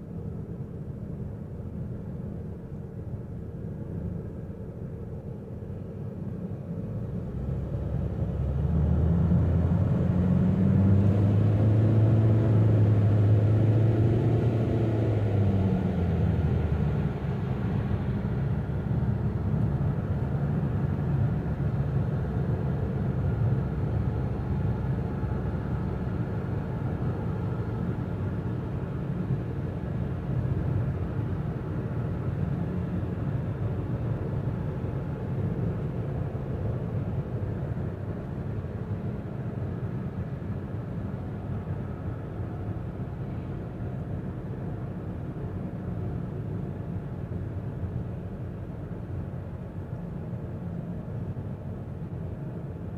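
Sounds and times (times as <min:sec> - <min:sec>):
low car hum: 0:00.2 - 0:52.9
road rumble: 0:06.8 - 0:52.9.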